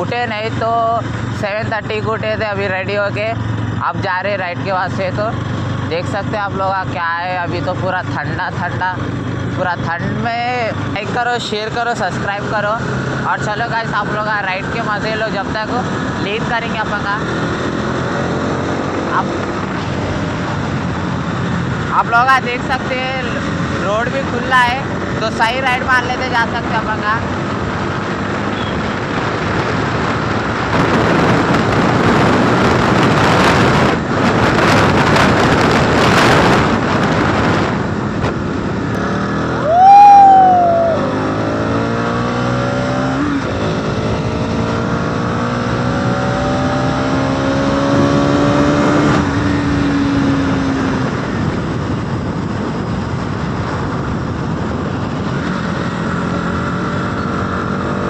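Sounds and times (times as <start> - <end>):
motorcycle engine accelerating: 0.0 - 58.0
rushing wind noise: 0.0 - 58.0.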